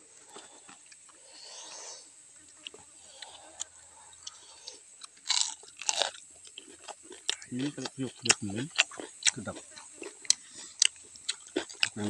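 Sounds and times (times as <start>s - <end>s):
crunchy chewing of fried food: 0.0s - 12.0s.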